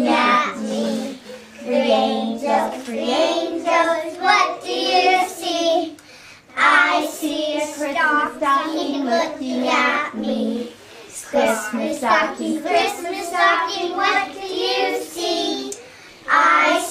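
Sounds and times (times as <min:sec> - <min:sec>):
young children singing: 0:00.0 - 0:16.9.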